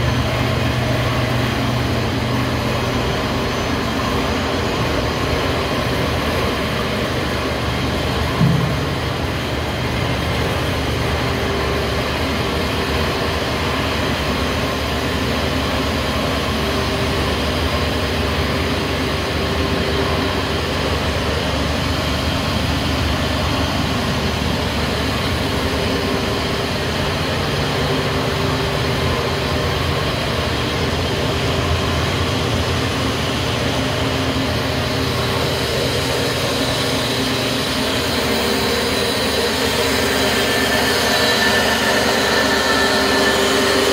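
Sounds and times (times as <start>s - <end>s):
recycling machinery running: 0.0s - 43.9s.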